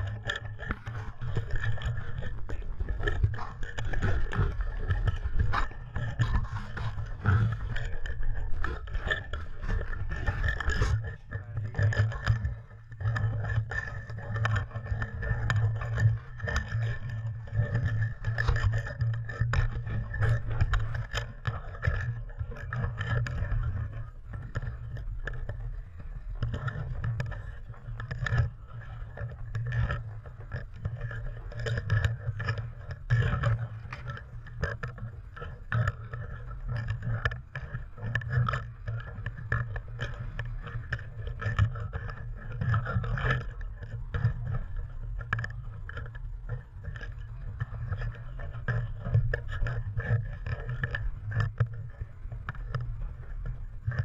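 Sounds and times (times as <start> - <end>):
knocks and scrapes on boat: 0.0 - 54.0
muffled low rumble: 0.0 - 54.0.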